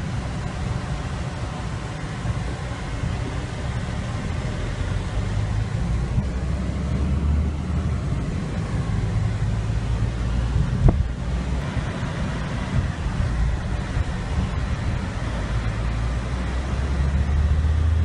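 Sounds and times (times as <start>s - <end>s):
car rumbling inside cabin: 0.0s - 18.0s.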